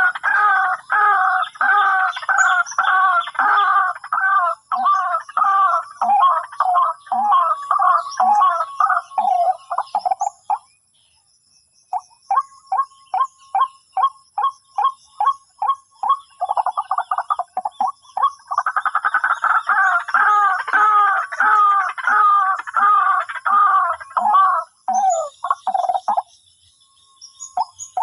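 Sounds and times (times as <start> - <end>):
waterhen croaking calls: 0.0 - 10.7, 11.9 - 26.3.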